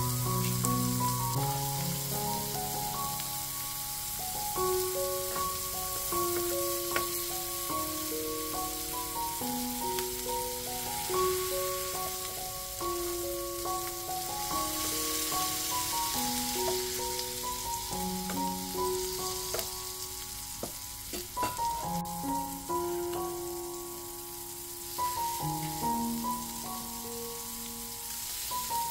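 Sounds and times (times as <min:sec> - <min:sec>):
burger patties sizzling in a pan: 0:00.0 - 0:28.9
slow melody of held notes: 0:00.0 - 0:28.9.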